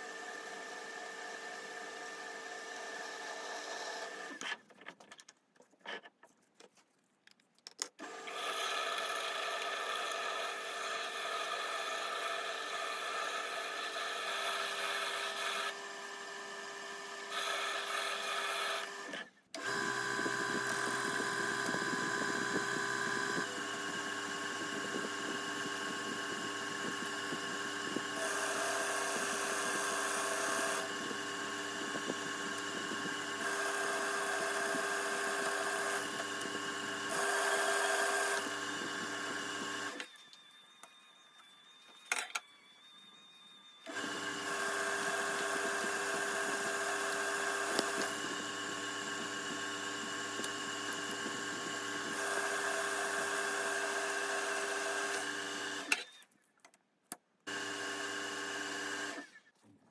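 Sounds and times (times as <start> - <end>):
electric motor whine: 8.0 - 56.2, 57.5 - 59.5.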